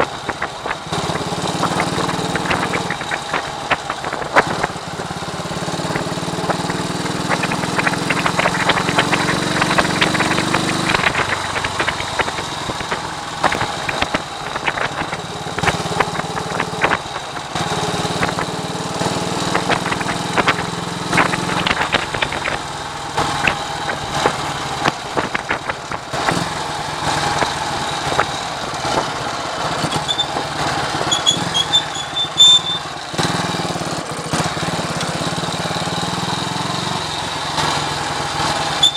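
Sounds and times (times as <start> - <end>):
wind buffeting microphone: 0.0 - 31.6
motorcycle engine running: 0.0 - 38.9.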